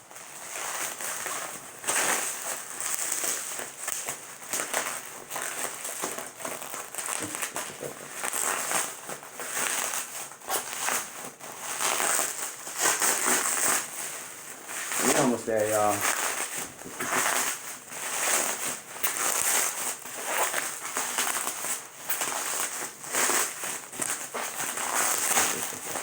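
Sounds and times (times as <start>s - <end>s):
packaging crinkling: 0.0s - 26.0s
packing tape ripping: 0.0s - 26.0s.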